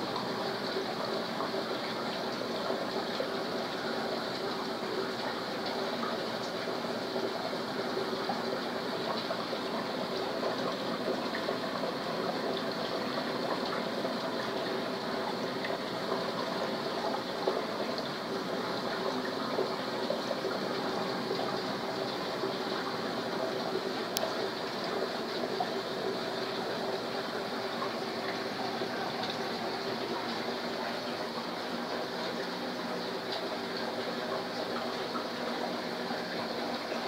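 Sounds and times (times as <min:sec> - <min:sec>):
circulating water rushing: 0:00.0 - 0:37.0
faint pump hum: 0:00.0 - 0:37.0.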